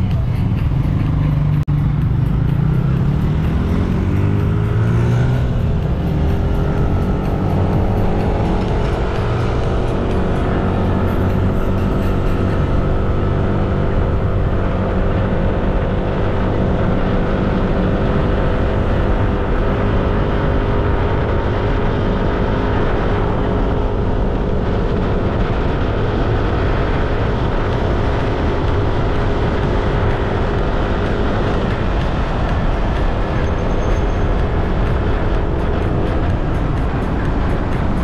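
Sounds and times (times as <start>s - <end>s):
road and wind noise: 0.0s - 38.0s
scooter engine cruising: 0.0s - 38.0s.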